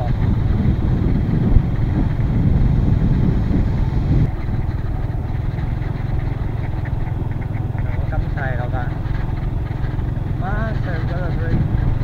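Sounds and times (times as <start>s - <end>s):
scooter engine hum: 0.0s - 12.0s
wind buffeting microphone: 0.0s - 12.0s.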